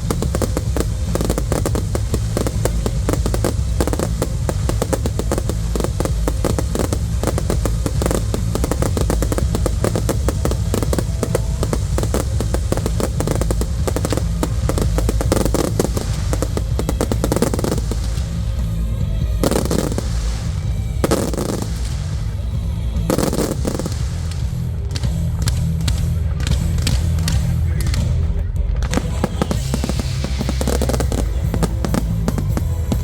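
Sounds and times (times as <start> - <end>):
fireworks bangs and crackles: 0.0 - 33.0
low rumble: 0.0 - 33.0.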